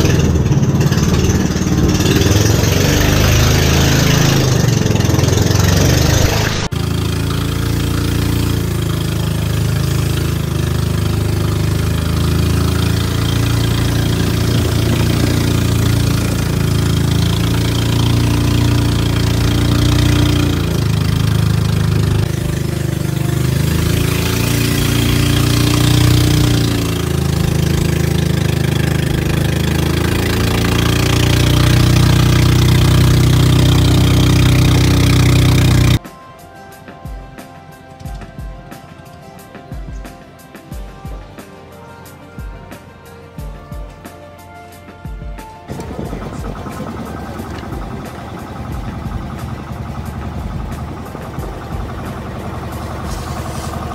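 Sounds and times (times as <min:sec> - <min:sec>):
boat engine running: 0:00.0 - 0:36.0, 0:45.7 - 0:53.9.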